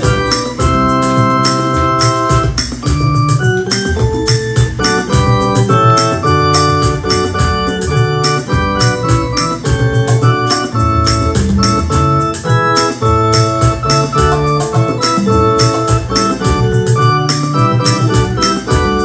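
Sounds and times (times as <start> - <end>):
electronic keyboard chords: 0.0 - 19.0.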